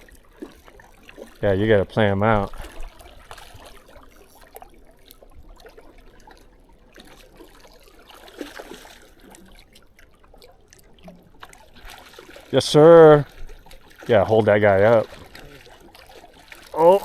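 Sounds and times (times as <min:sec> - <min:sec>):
lake water lapping: 0:00.0 - 0:17.0
small splashes: 0:00.0 - 0:17.0.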